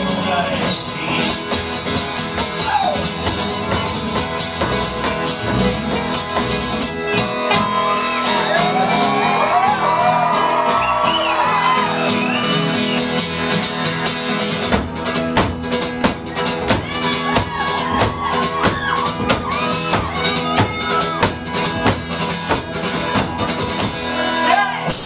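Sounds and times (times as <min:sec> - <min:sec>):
acoustic folk-rock band playing: 0:00.0 - 0:25.0.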